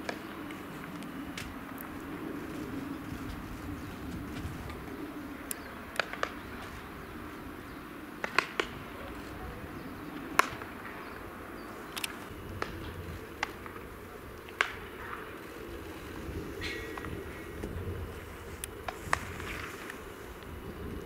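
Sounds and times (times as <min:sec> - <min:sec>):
balls cracking off bats: 0:00.0 - 0:09.4, 0:10.0 - 0:17.8
low outdoor background: 0:00.0 - 0:21.0.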